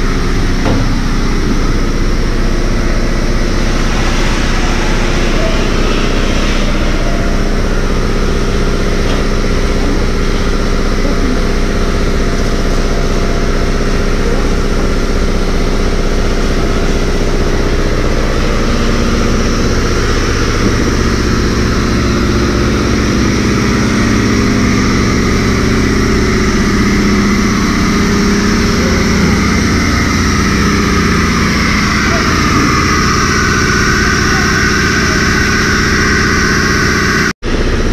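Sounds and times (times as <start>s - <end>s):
engine drone: 0.0s - 37.9s.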